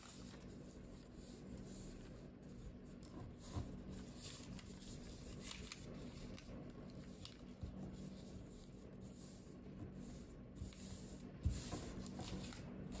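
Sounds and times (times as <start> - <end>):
paper rustling as it is folded: 0.0 - 13.0.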